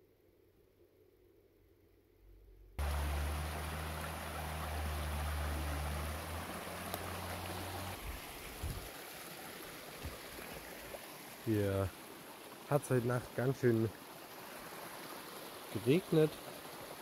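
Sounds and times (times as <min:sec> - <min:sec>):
stream running over rocks: 0:02.8 - 0:17.0.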